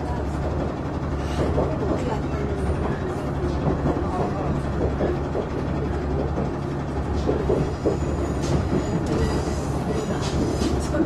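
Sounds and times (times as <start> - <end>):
diesel engine low hum: 0.0 - 11.0
wheels running on rails: 0.0 - 11.0.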